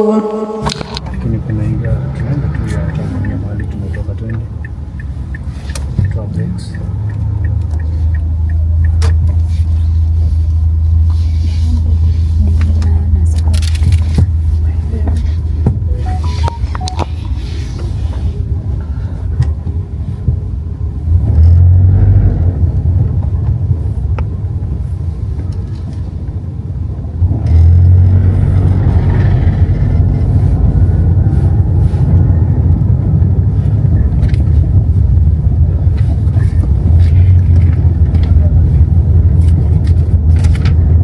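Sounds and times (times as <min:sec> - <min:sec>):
car engine rumble: 0:00.0 - 0:41.0
road noise inside car: 0:00.0 - 0:41.0.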